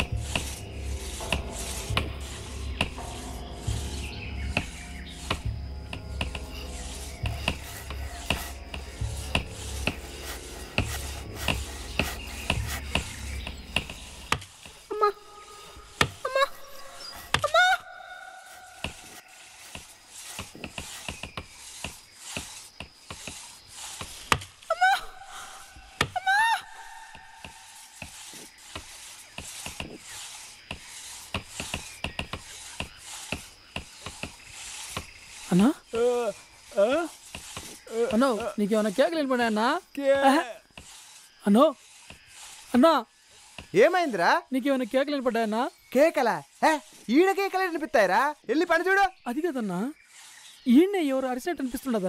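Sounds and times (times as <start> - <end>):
saw rasping through wood: 0.0 - 17.8, 18.4 - 52.0
steady high hiss: 0.0 - 52.0.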